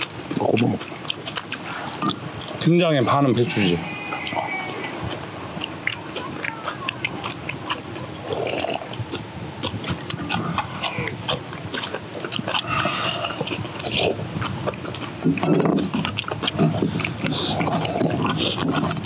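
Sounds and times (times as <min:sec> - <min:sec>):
people chewing and crunching: 0:00.0 - 0:19.0.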